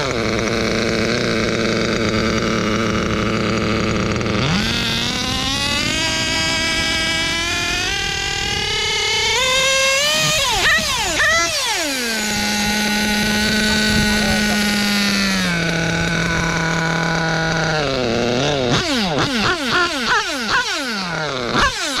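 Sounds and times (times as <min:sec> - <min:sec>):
model engine revving: 0:00.0 - 0:22.0.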